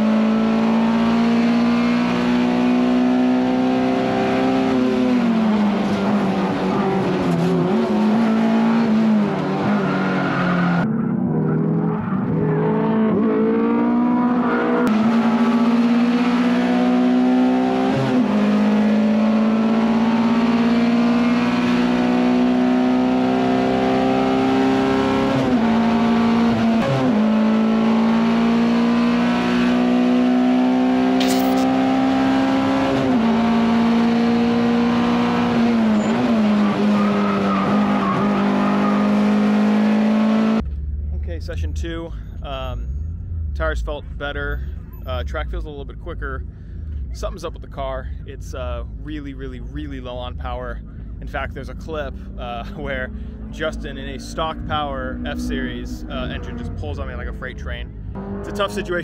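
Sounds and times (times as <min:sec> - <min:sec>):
race car engine at high revs: 0:00.0 - 0:41.4, 0:48.5 - 0:59.0.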